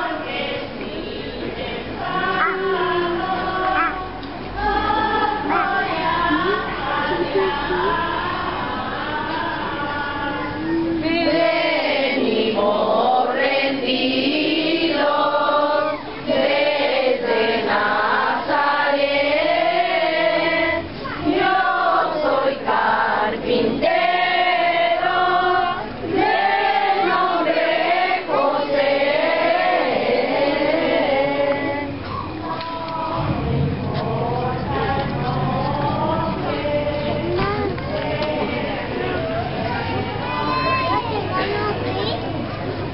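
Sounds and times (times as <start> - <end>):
group of people singing: 0.0 - 40.6.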